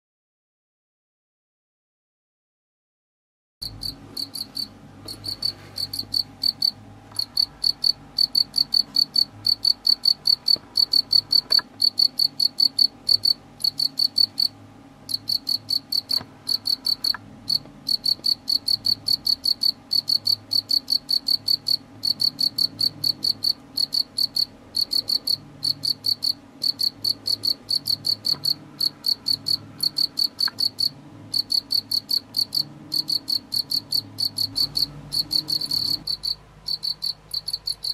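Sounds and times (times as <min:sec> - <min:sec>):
cricket chirping: 0:03.6 - 0:14.5, 0:15.1 - 0:37.9.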